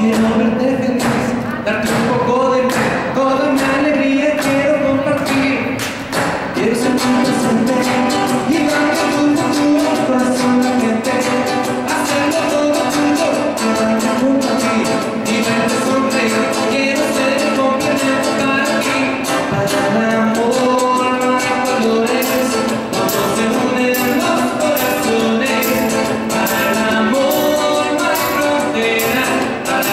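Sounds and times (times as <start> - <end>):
acoustic guitar strumming: 0.0 - 29.9
man singing: 0.0 - 29.9.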